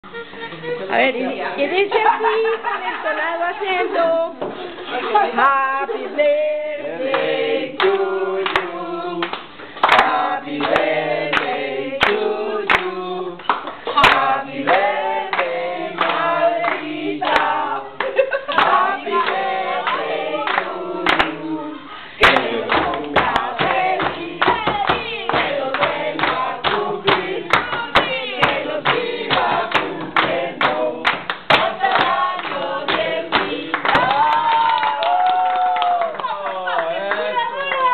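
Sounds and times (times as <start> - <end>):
group singing birthday song: 0.6 - 35.2
people clapping: 7.0 - 37.9.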